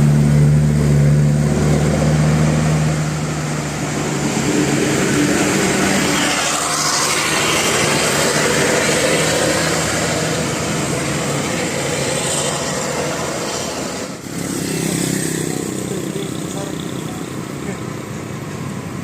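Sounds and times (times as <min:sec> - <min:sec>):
heavy vehicle driving past: 0:00.0 - 0:19.0.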